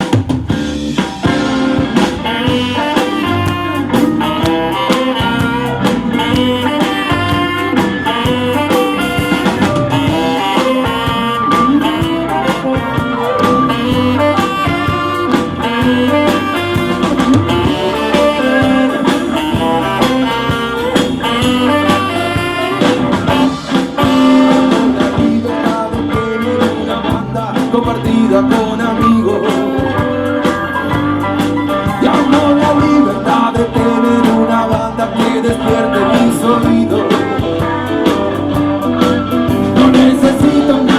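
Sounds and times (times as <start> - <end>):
blues band playing: 0.0 - 40.9
melodic lead line: 0.0 - 40.9
steady drum beat: 0.0 - 40.9.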